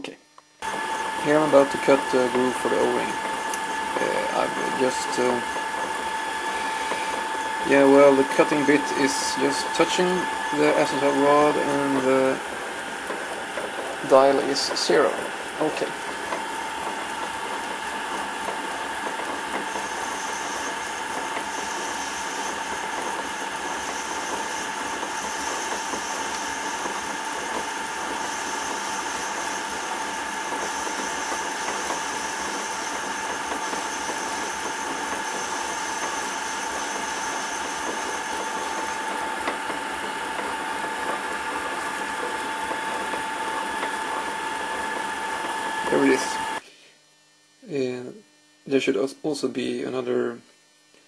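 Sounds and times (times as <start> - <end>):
lathe whining: 0.4 - 46.6.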